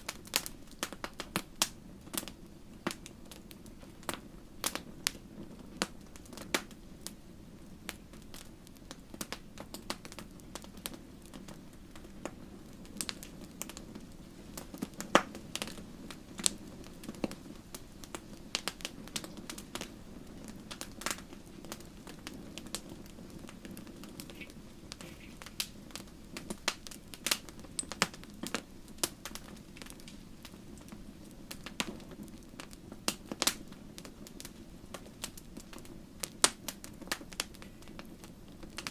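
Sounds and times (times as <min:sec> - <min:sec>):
low rumble of burning fire: 0:00.0 - 0:38.9
wood fire crackling and popping: 0:00.0 - 0:38.9.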